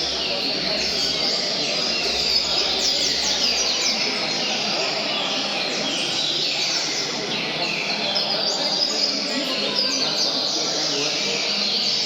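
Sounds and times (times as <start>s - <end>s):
birds singing whistled notes: 0.0s - 12.0s.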